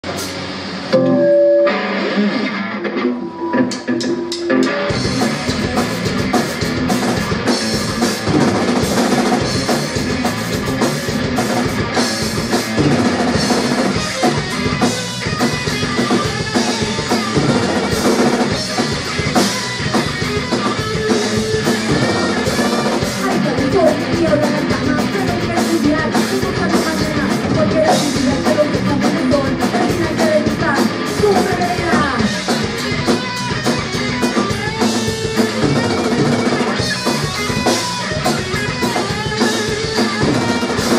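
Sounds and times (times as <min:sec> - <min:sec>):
bass guitar: 0:00.0 - 0:40.9
electric guitar: 0:00.0 - 0:40.9
drum kit pounding: 0:03.6 - 0:40.9.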